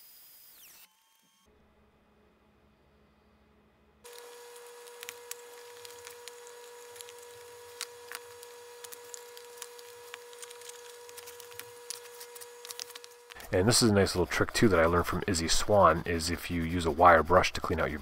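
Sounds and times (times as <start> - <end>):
steady hum: 1.5 - 18.0.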